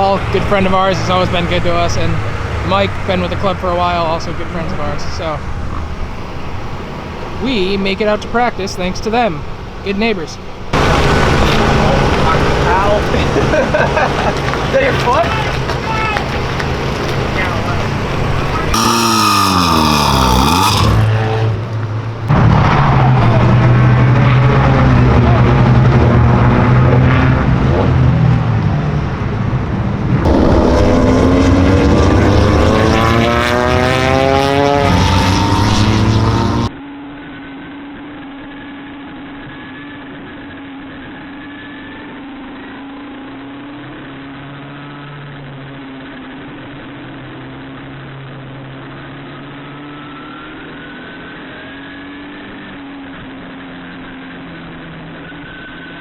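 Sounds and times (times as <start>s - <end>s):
muffled engine drone: 0.0s - 56.0s
race car engines revving: 0.0s - 56.0s.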